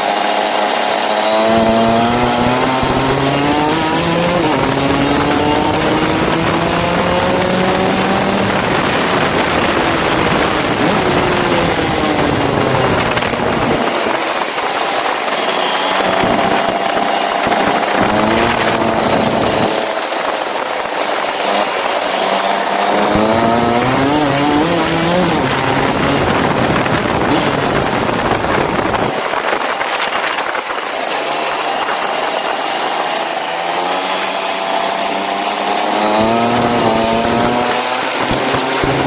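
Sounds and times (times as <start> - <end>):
go-kart engine accelerating: 0.0 - 39.0
steady rushing noise: 0.0 - 39.0.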